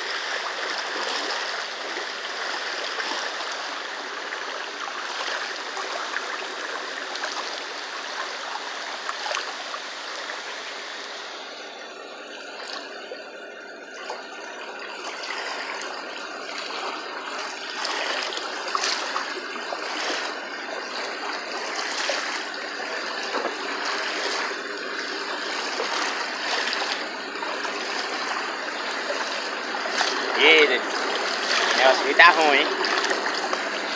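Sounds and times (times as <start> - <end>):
floodwater rushing and churning: 0.0 - 33.9.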